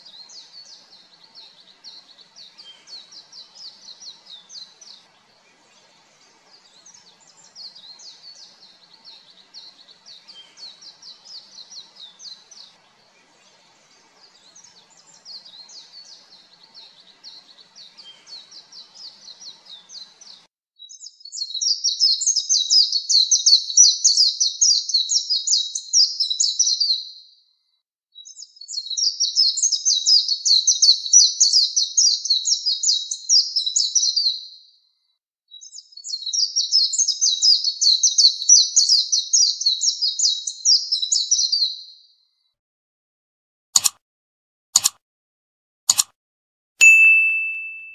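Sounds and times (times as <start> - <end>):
bird twittering song: 0.0 - 27.2, 28.2 - 34.6, 35.5 - 42.1.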